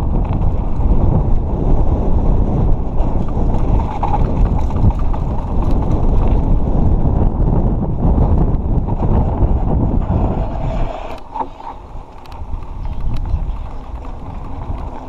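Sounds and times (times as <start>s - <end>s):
mountain bike rumble on dirt: 0.0s - 15.0s
wind buffeting microphone: 0.0s - 15.0s.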